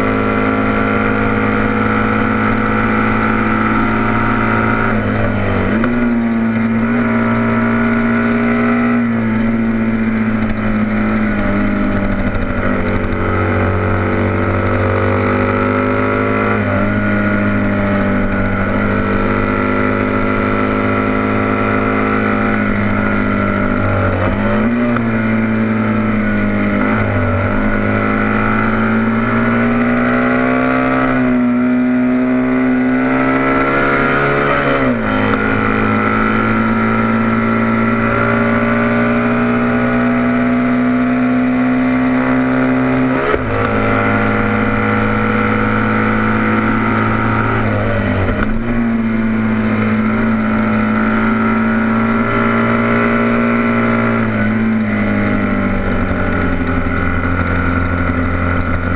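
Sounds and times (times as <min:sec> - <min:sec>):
motorcycle engine at high revs: 0:00.0 - 0:58.9.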